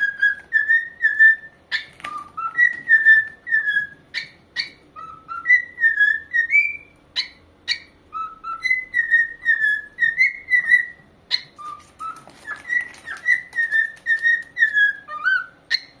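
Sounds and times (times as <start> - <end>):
corella whistling: 0.0 - 16.0.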